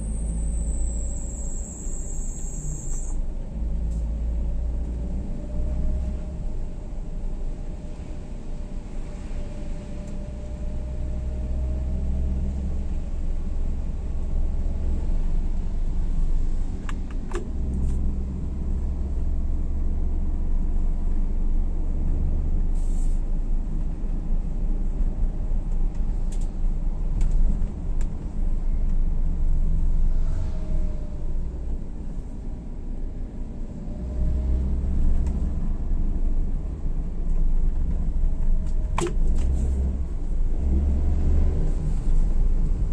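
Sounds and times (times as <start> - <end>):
vehicle engine and road rumble: 0.0 - 42.9.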